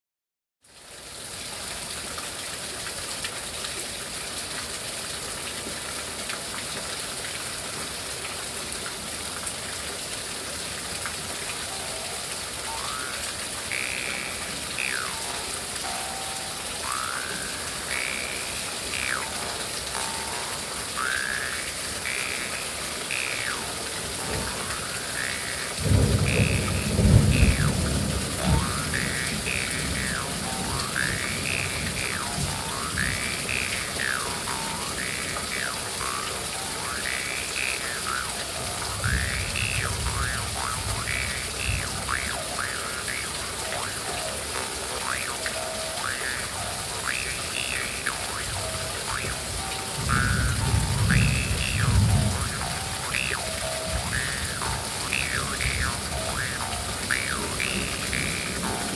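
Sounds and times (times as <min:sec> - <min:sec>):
steady rain falling: 0:00.6 - 0:58.9.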